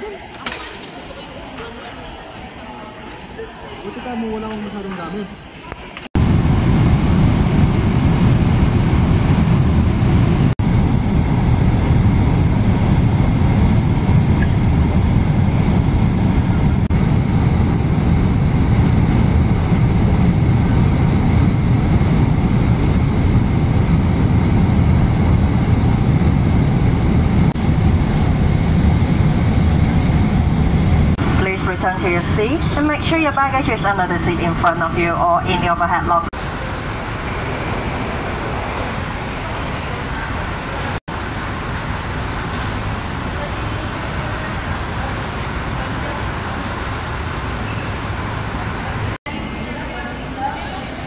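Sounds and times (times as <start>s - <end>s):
jet airliner cabin noise: 5.7s - 51.0s.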